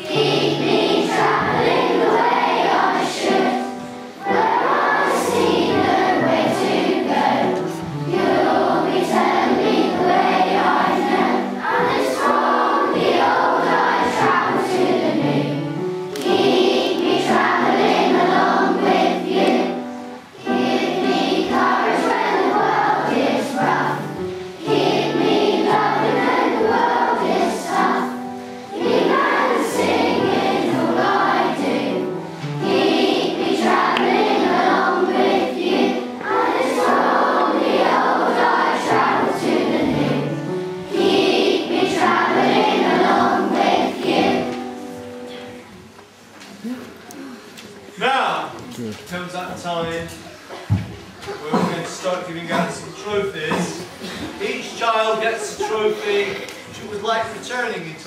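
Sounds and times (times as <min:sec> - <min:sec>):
children's choir singing: 0:00.0 - 0:46.3, 0:49.8 - 0:58.0.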